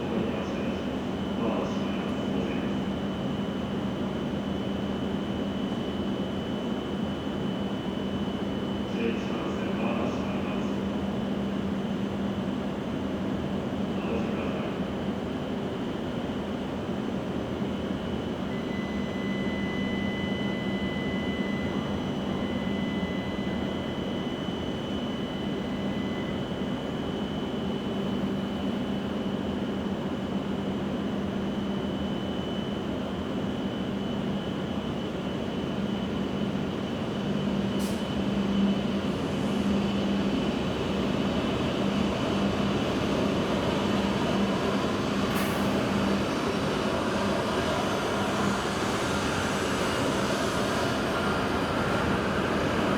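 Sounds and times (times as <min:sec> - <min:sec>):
train electrical hum: 0:00.0 - 0:52.9.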